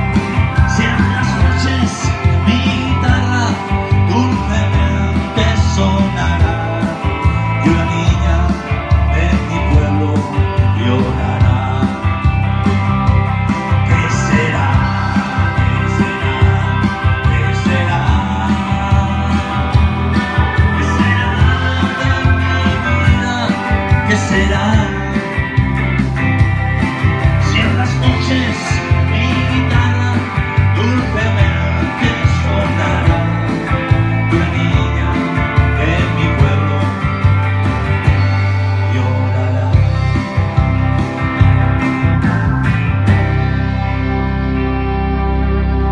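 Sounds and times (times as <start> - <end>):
steady beat: 0.0 - 9.8, 10.5 - 38.7
bass line: 0.0 - 45.9
electric guitar: 0.0 - 45.9.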